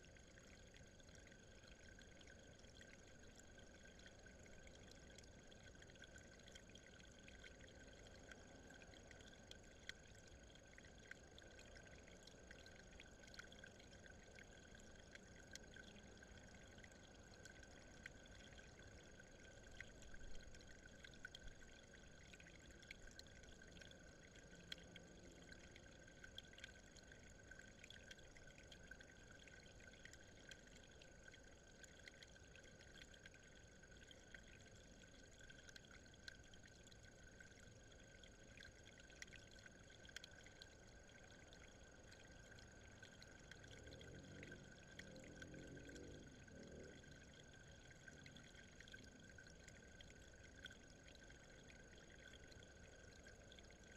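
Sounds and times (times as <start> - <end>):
water trickling over stone: 0.0 - 53.9
small ticks: 1.6 - 50.9.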